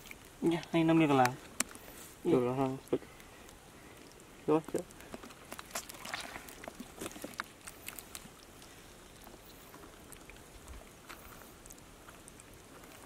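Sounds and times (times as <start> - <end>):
fish squirming in bucket: 0.0 - 13.0.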